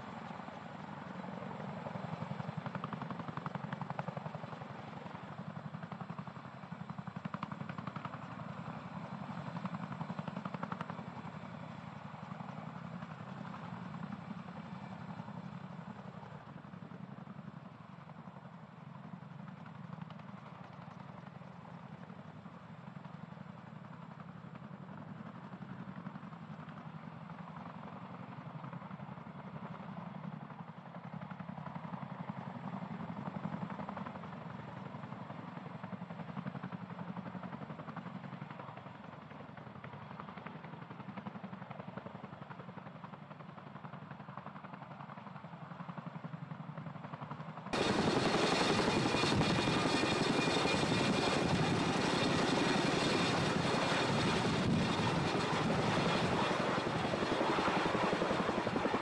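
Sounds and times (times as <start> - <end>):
helicopter rotor and engine noise: 0.0 - 59.0.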